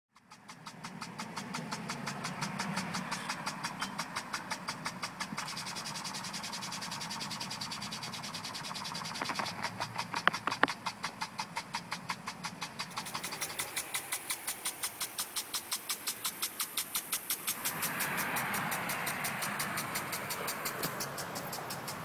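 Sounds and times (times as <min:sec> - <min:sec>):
impulse sprinkler ticking: 0:00.2 - 0:22.0
loud sprinkler clacks: 0:00.2 - 0:22.0.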